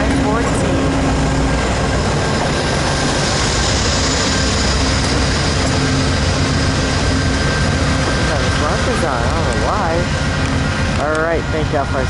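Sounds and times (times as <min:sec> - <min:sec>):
diesel locomotive engine: 0:00.0 - 0:12.0
train wheels rumbling on rail: 0:00.0 - 0:12.0.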